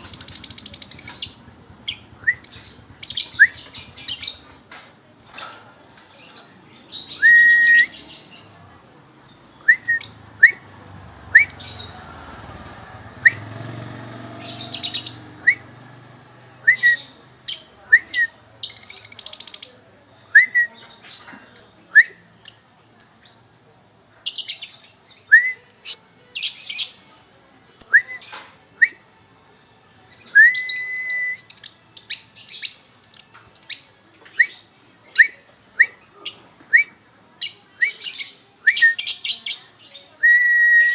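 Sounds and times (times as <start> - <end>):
songbirds singing: 0.0 - 29.0, 30.1 - 40.9.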